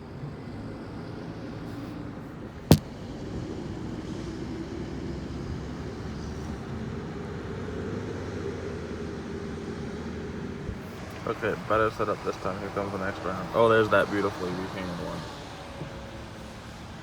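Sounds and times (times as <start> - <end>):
diesel truck engines rumbling: 3.4 - 17.0.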